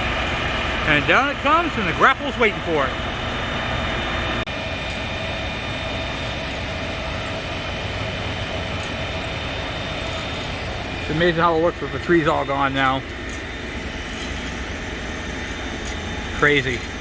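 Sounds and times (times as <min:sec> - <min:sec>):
heavy machinery engine droning: 0:00.0 - 0:17.0.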